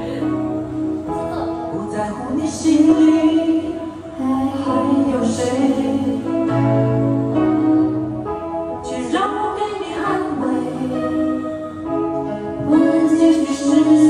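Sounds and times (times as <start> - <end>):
instrumental backing: 0.0 - 14.0
slow sung melody: 0.0 - 14.0.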